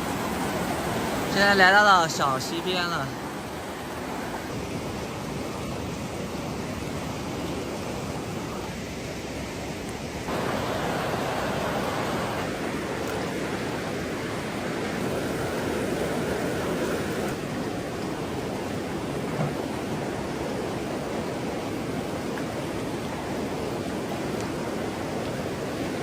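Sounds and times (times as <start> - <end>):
creek rushing over rocks: 0.0 - 26.0.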